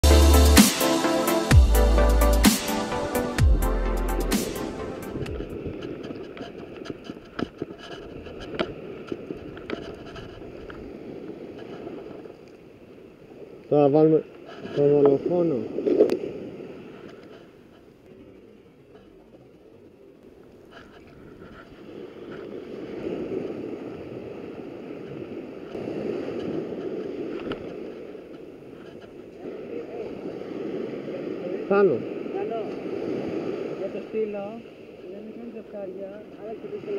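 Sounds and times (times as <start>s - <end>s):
small waves washing onto shore: 0.0s - 36.9s
steady outdoor hiss: 0.0s - 36.9s.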